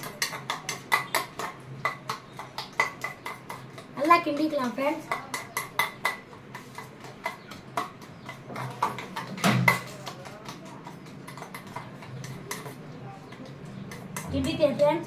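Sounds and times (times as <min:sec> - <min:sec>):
utensil clinking against steel bowl: 0:00.0 - 0:15.0.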